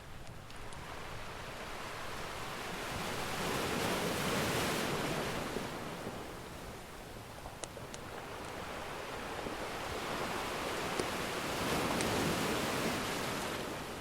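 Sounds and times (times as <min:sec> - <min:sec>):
ocean waves breaking: 0:00.5 - 0:14.0.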